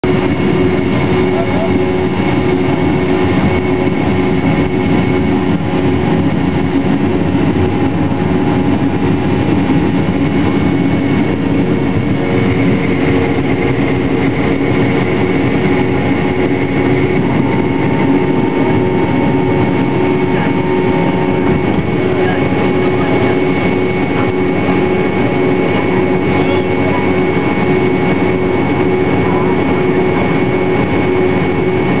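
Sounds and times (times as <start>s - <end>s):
higher engine whine: 0.0s - 32.0s
jet engines rushing and whining: 0.0s - 32.0s.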